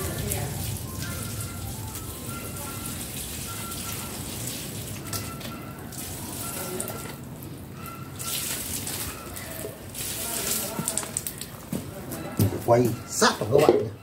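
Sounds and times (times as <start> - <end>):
water splashing on plants: 0.0 - 11.9.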